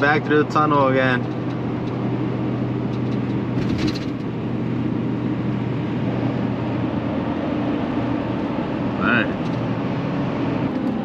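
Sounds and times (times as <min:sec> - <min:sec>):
road and engine noise in car: 0:00.0 - 0:11.0.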